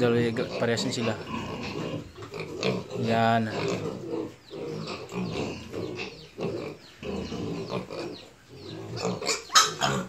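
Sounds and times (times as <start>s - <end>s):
piglets grunting: 0.0s - 10.0s.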